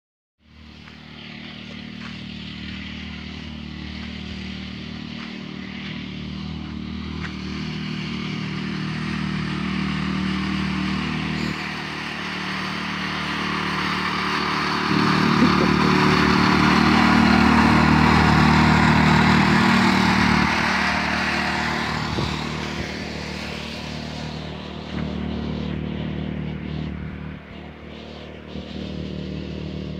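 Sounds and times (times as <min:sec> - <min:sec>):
tractor engine running: 0:00.4 - 0:29.9.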